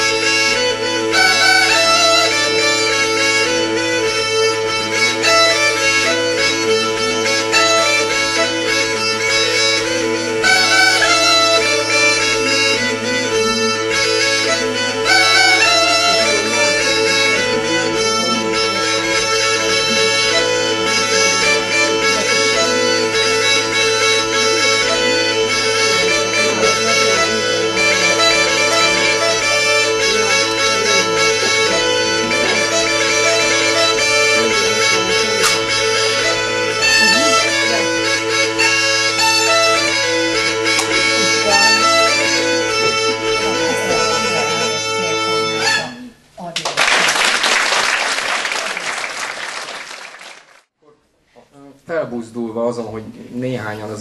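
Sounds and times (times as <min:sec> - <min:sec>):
bagpipes playing folk tune: 0:00.0 - 0:46.1.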